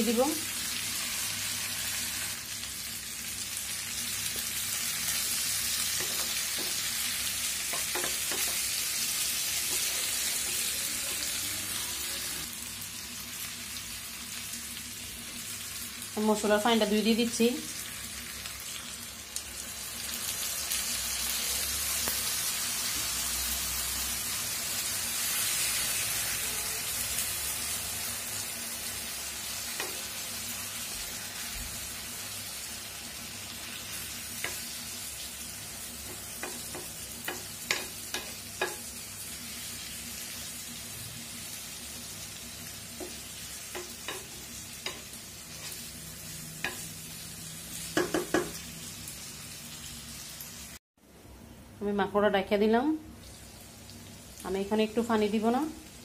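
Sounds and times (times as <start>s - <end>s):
meat sizzling in oil: 0.0s - 50.8s, 53.2s - 56.0s.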